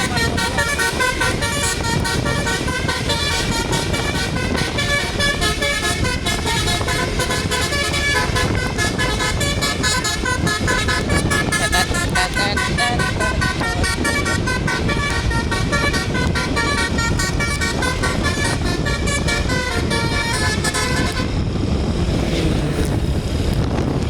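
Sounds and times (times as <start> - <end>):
bus horn playing a tune: 0.0 - 21.9
low rumble: 0.0 - 24.0.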